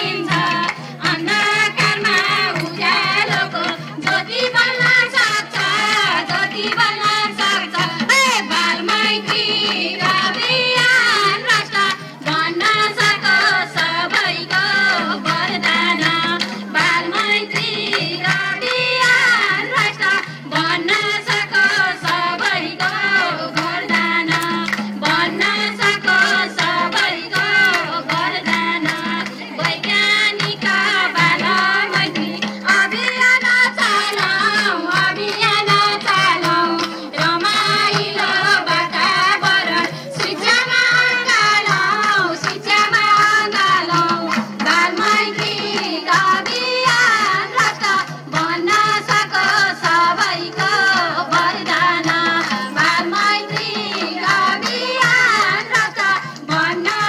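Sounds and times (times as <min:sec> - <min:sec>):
hand drum beat: 0:00.0 - 0:57.0.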